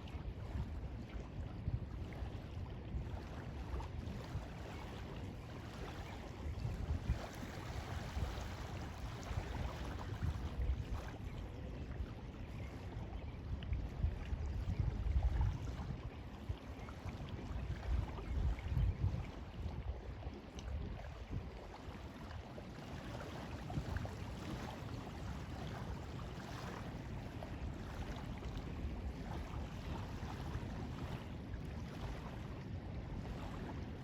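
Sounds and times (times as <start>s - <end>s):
water lapping at shore: 0.0s - 34.0s.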